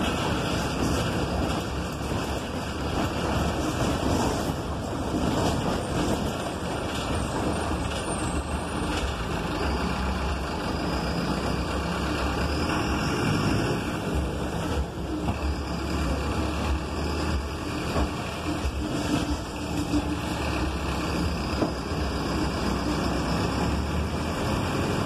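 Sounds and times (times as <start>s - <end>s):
bus engine hum: 0.0s - 25.0s
road noise: 0.0s - 25.0s.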